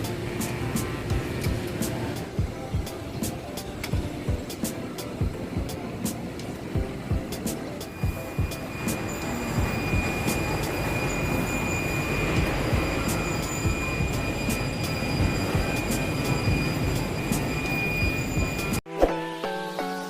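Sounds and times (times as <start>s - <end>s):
high steady squeal: 0.0s - 18.8s.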